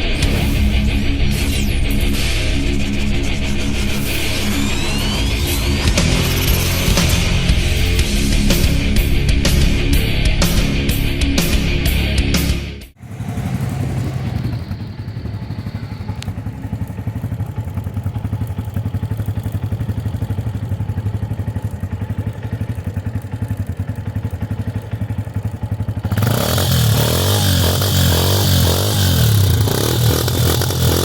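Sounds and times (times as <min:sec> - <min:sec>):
motorcycle engine idling: 0:00.0 - 0:11.2, 0:12.9 - 0:31.0
motorcycle engine revving: 0:00.0 - 0:31.0.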